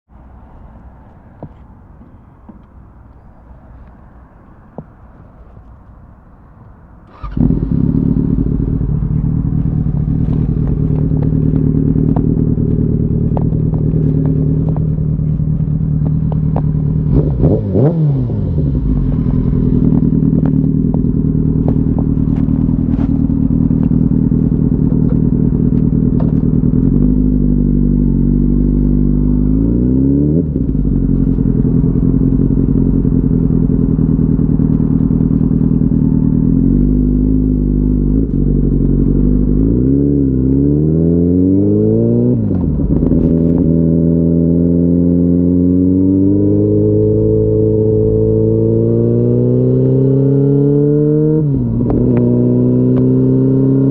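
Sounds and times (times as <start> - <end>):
motorcycle engine revving: 7.1 - 53.9.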